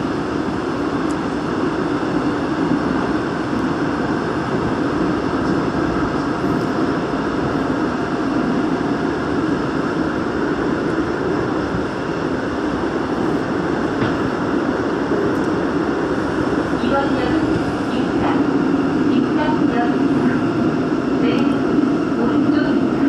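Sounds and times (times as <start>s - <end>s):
subway train rumbling in tunnel: 0.0s - 23.0s.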